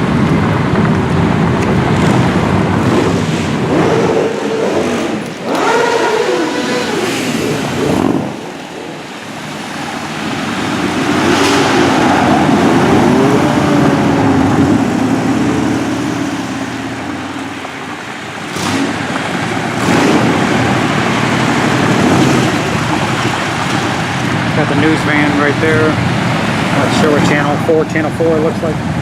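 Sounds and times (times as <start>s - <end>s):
motorcycles passing: 0.0s - 29.0s.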